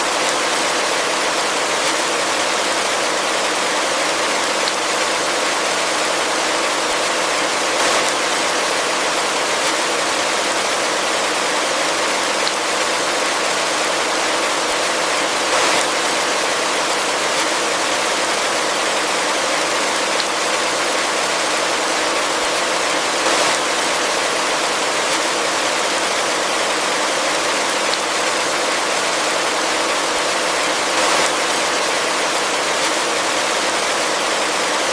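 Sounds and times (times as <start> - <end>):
heavy rain in forest: 0.0 - 34.9.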